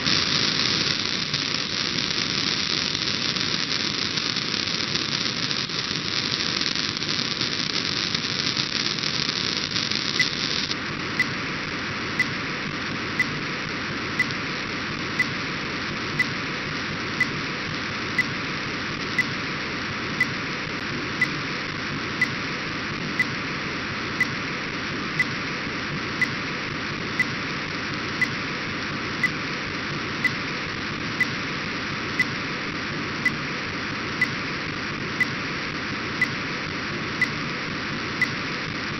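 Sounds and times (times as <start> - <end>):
radio receiver hiss: 0.0 - 38.9.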